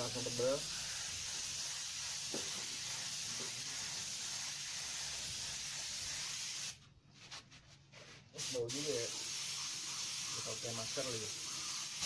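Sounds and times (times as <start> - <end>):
spray gun hissing: 0.0 - 6.8, 8.4 - 12.0.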